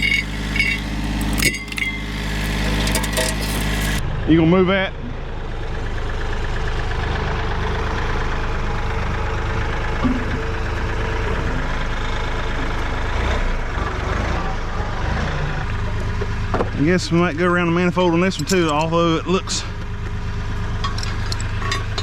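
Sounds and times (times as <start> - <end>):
small tractor engine running: 0.0 - 22.0.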